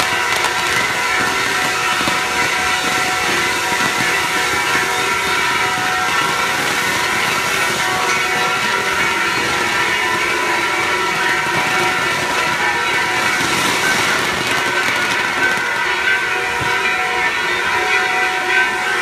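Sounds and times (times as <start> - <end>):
fireworks hissing rush: 0.0 - 19.0
fireworks whistling: 0.0 - 19.0.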